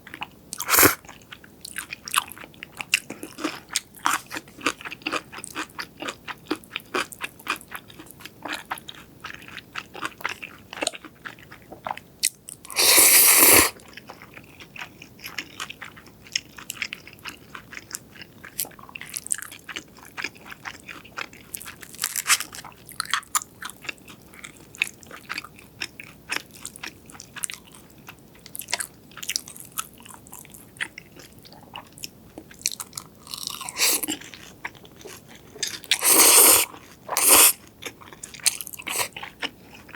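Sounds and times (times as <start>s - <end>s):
crunchy chewing: 0.1s - 39.9s.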